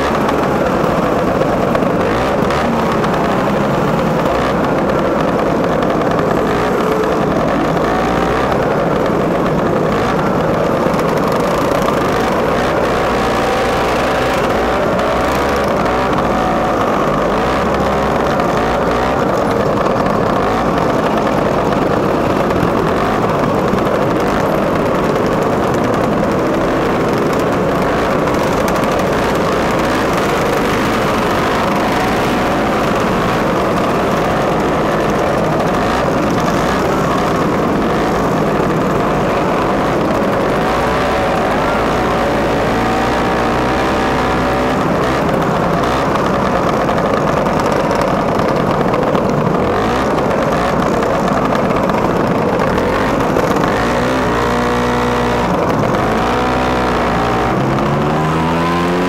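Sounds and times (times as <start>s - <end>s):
scooter engines buzzing: 0.0s - 59.0s.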